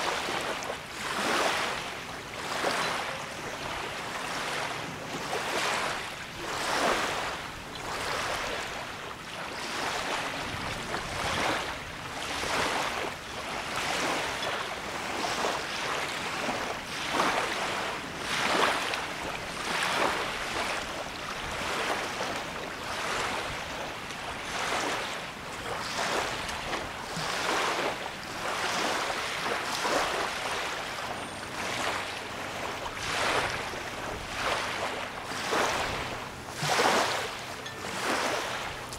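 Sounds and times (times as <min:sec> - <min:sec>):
waves lapping against shore: 0:00.0 - 0:38.9.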